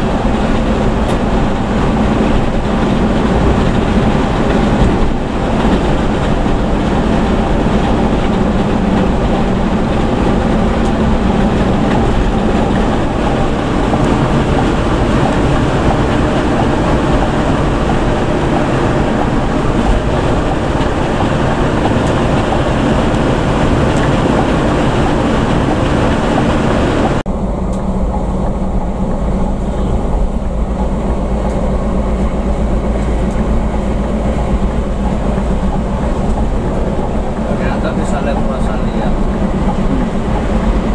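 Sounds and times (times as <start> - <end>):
bus engine drone: 0.0 - 40.9
road and wind noise: 0.0 - 40.9.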